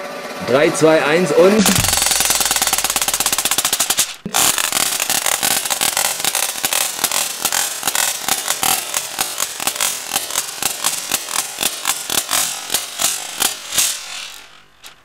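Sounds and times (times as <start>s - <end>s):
toy wings flapping clatter: 1.7s - 15.0s.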